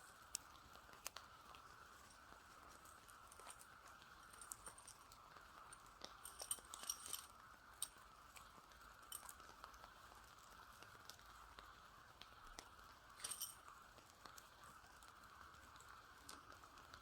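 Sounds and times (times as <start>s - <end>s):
faint clicks and ticks: 0.0s - 17.0s
faint steady hiss: 0.0s - 17.0s.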